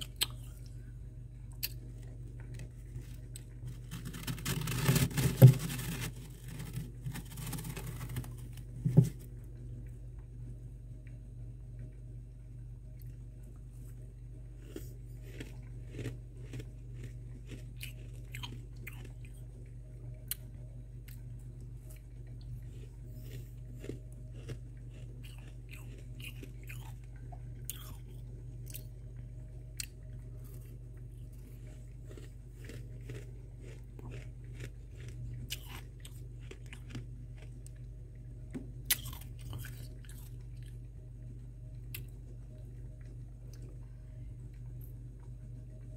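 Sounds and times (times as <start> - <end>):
crunching and chewing frost: 0.0 - 10.3, 12.9 - 45.9
steady low hum: 0.0 - 45.9.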